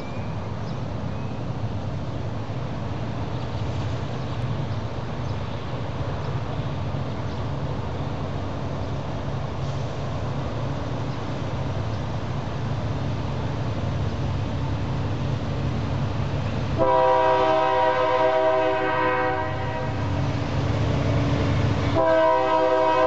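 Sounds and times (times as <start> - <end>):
diesel locomotive engine rumble: 0.0 - 23.0.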